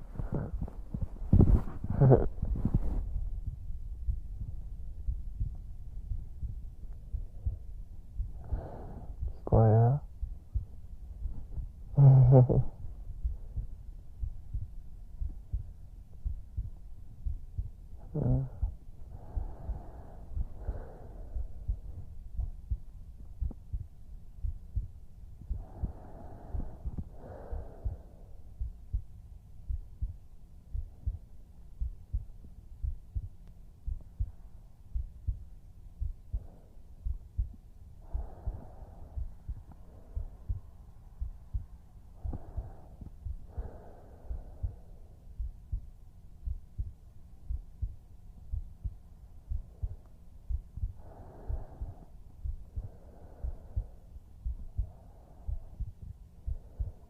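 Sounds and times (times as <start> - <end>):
muffled heartbeat thumps: 0.0 - 57.0.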